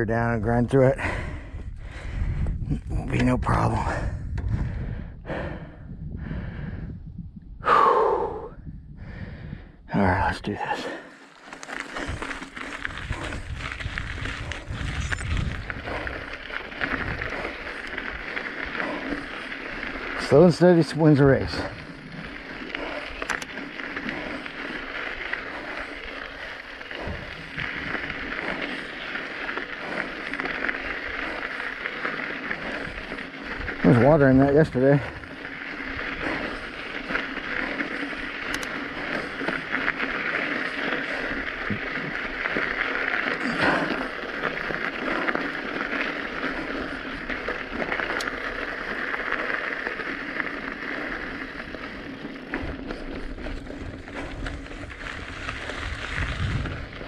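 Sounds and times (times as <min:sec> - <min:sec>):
bicycle tyres on gravel: 0:00.0 - 0:57.0
man breathing hard: 0:01.0 - 0:02.7, 0:03.8 - 0:09.9, 0:10.6 - 0:20.2, 0:21.5 - 0:33.8, 0:35.0 - 0:55.4.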